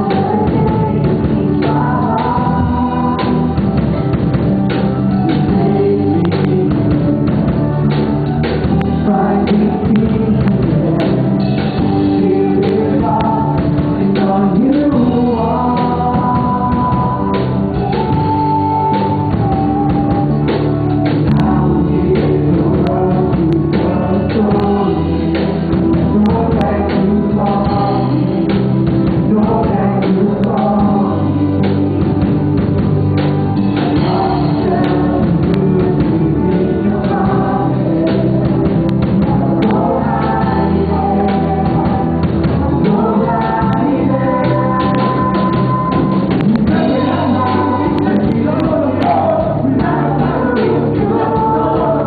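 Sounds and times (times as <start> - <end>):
band with steady drum beat: 0.0 - 52.0
group singing worship song: 0.0 - 52.0.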